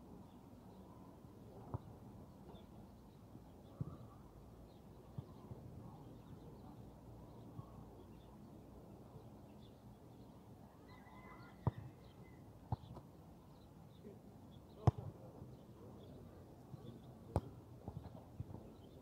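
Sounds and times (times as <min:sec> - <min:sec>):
small birds chirping faintly: 0:00.0 - 0:19.0.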